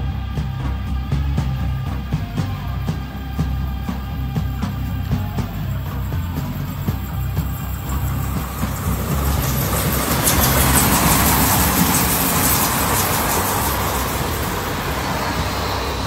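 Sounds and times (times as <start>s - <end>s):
electric train passing: 0.0s - 16.0s.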